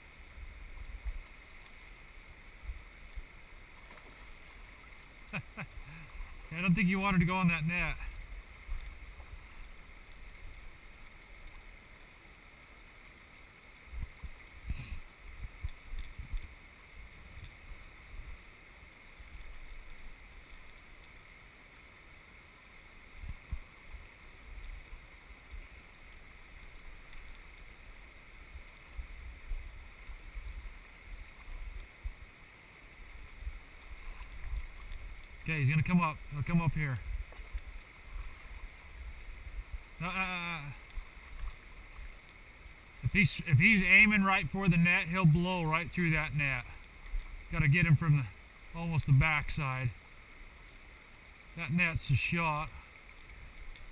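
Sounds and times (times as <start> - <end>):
river running over gravel: 0.0 - 53.9.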